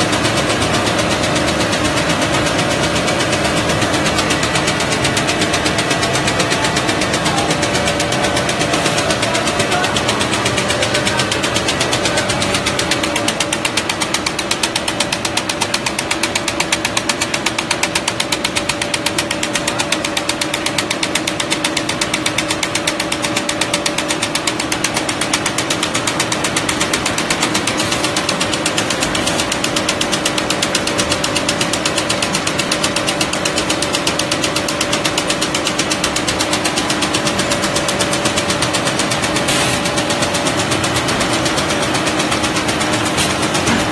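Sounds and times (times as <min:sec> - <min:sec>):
machine hum: 0:00.0 - 0:43.9
paper machine clattering: 0:00.0 - 0:43.9.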